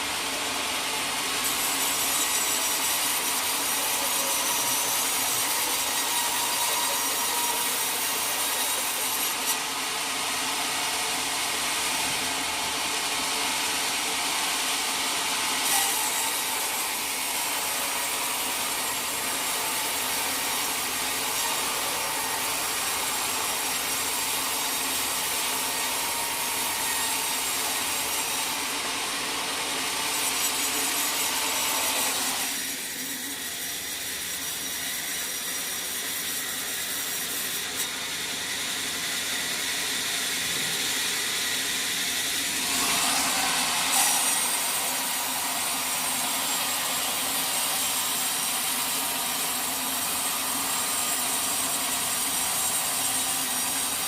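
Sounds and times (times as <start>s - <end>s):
saw blade cutting log: 0.0s - 54.0s.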